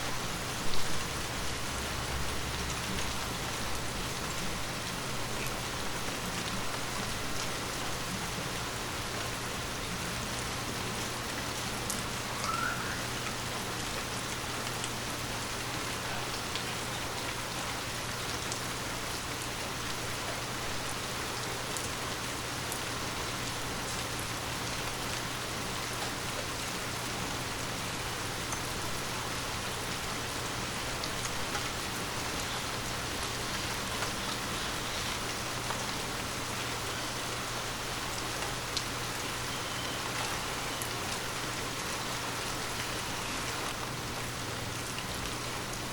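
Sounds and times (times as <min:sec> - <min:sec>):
light rain falling: 0:00.0 - 0:45.9.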